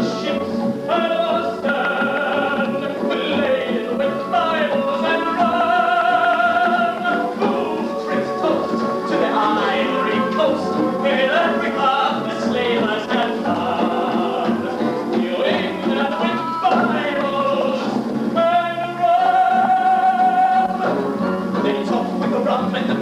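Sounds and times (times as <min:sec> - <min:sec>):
pit orchestra playing: 0:00.0 - 0:23.0
voices singing a show tune: 0:00.0 - 0:23.0.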